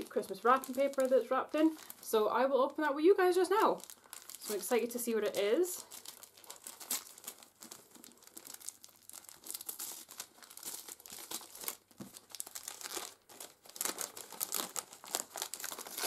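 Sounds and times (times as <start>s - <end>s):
wrapping paper tearing and crumpling: 0.0s - 2.2s, 3.2s - 16.0s.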